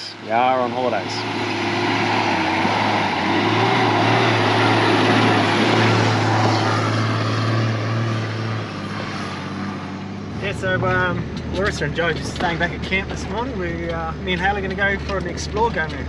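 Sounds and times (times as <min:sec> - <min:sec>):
car engine drone: 0:00.0 - 0:16.0
road and tyre noise: 0:00.0 - 0:16.0.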